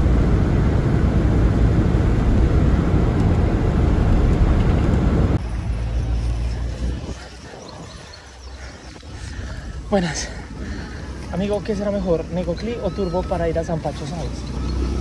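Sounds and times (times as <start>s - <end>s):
bus engine and road rumble: 0.0s - 15.0s
quiet outdoor rumble: 0.0s - 15.0s.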